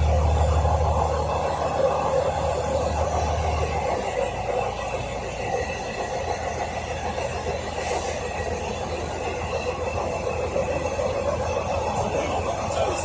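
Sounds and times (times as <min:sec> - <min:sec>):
railcar engine drone: 0:00.0 - 0:13.0
wheels rumbling on track: 0:00.0 - 0:13.0.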